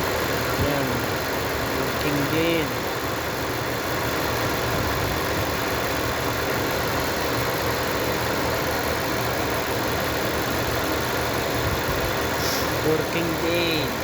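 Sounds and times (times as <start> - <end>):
misfiring car engine idling: 0.0 - 14.0.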